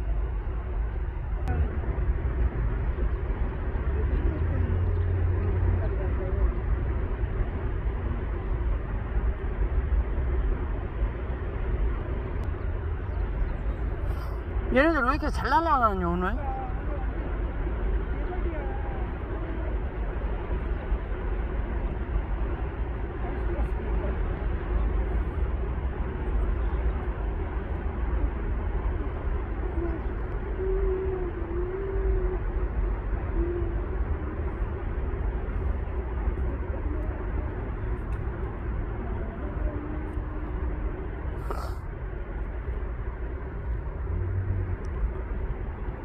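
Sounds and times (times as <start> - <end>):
low rumble: 0.0 - 46.0.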